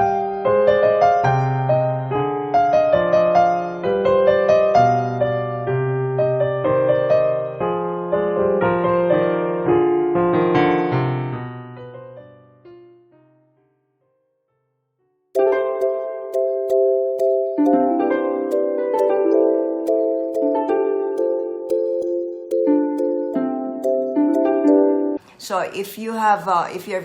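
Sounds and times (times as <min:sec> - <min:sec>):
gentle piano music: 0:00.0 - 0:25.2.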